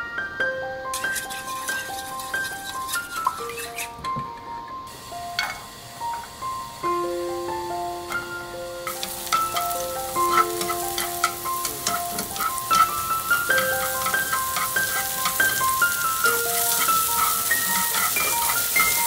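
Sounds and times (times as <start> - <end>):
background music melody: 0.0 - 19.0
food sizzling in a frying pan: 0.9 - 3.9, 4.9 - 19.0.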